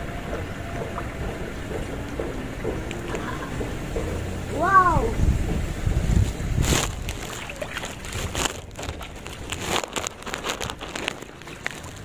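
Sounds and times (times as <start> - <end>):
muddy water sloshing and splashing: 0.0 - 12.0.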